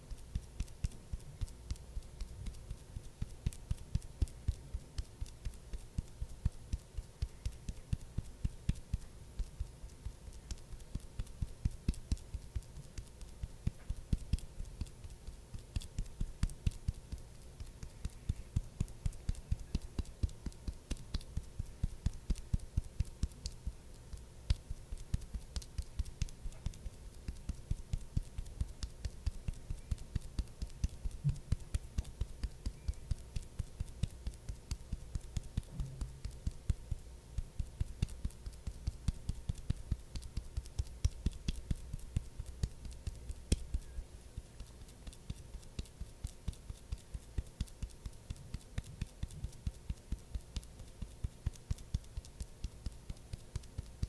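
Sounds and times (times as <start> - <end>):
soft patting taps on skin: 0.0 - 54.0.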